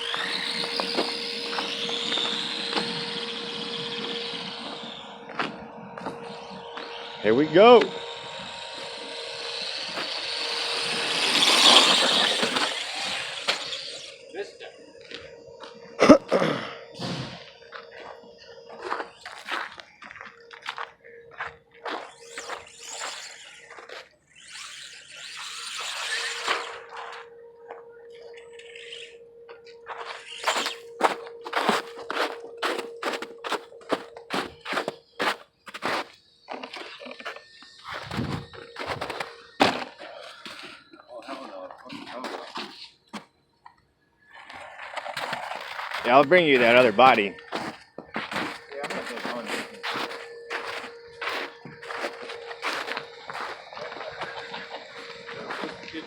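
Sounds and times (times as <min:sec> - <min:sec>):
rc truck motor whine: 0:00.0 - 0:56.0.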